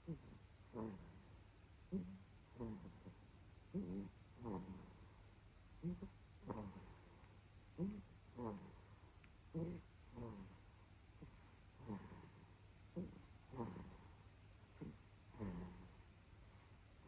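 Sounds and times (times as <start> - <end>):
soft snoring: 0.0 - 17.0.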